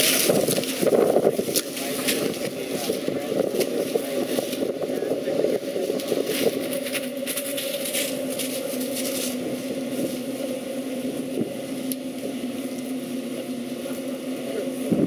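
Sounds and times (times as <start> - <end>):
crackling rustle: 0.0 - 13.1
tractor engine humming: 0.0 - 15.0.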